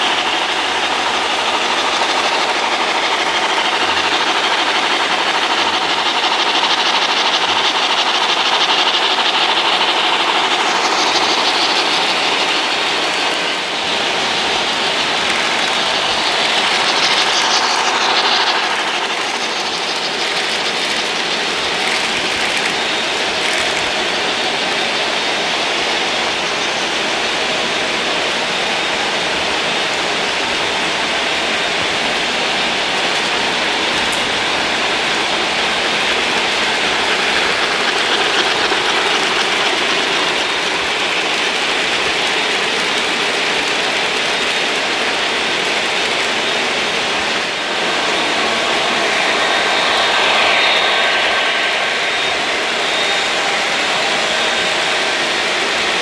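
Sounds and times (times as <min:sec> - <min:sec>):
model trains whirring and rattling: 0:00.0 - 0:56.0.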